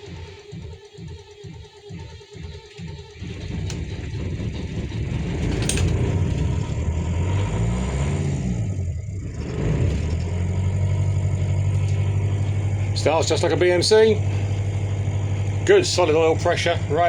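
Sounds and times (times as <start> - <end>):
marine diesel engine starting: 3.0 - 17.0
diesel engine idling: 3.2 - 17.0
diesel engine revving: 3.2 - 17.0.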